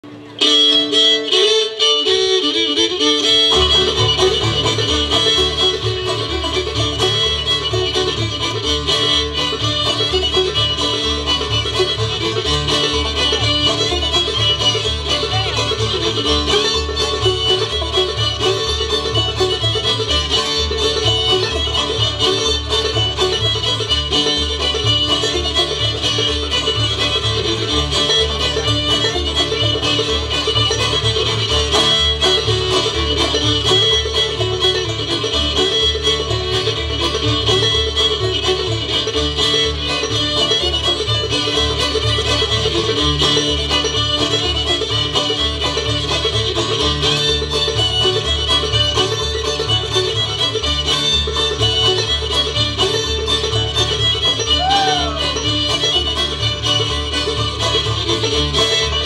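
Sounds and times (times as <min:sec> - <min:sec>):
banjo: 0:00.0 - 0:59.0
fiddle: 0:00.0 - 0:59.0
upright bass: 0:03.5 - 0:59.0.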